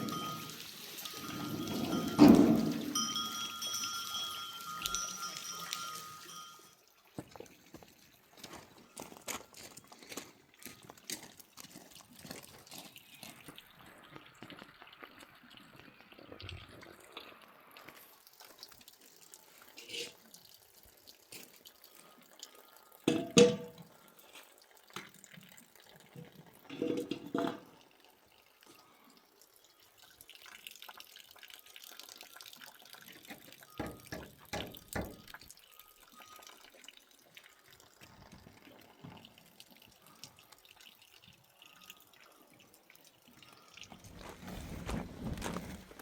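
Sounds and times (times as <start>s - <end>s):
water running and dripping: 0.0s - 44.5s.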